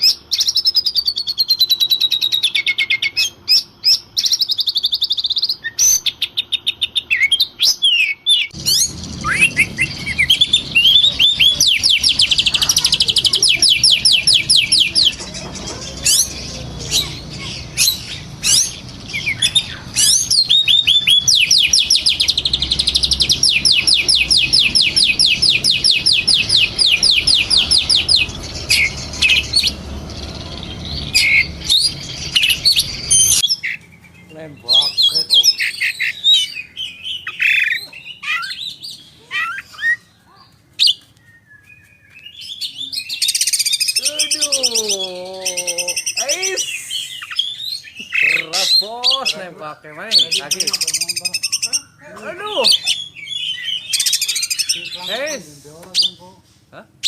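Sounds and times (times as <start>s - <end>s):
bird whistling and chirping: 0.0s - 40.1s, 40.8s - 49.4s, 50.1s - 55.3s.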